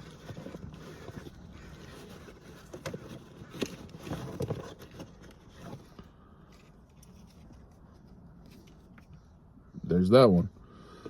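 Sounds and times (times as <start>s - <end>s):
packaging rustling and scraping: 0.0s - 9.2s.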